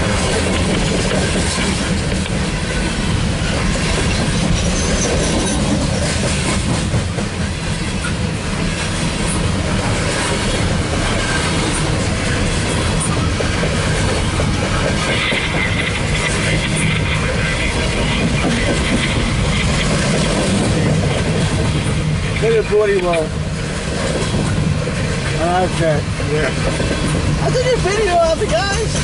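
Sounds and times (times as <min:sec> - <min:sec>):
freight train wheels on rails: 0:00.0 - 0:29.0.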